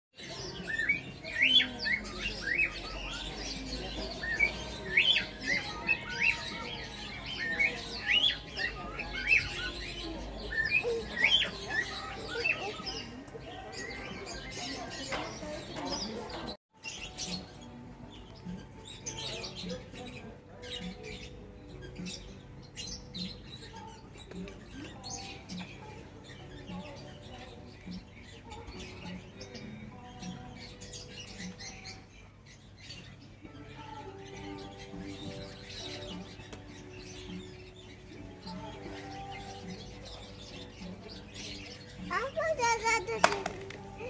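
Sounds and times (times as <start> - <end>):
small birds chirping: 0.1 - 44.0.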